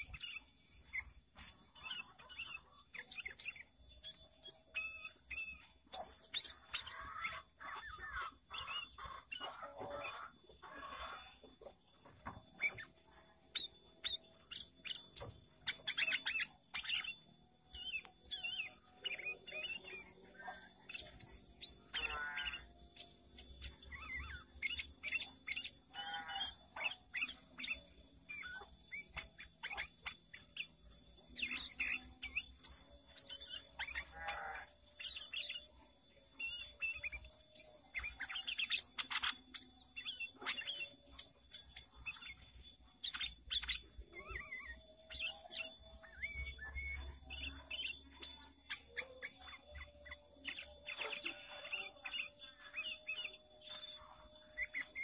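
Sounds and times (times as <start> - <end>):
bird singing high chirps: 0.0 - 55.0
bird trills: 0.0 - 55.0.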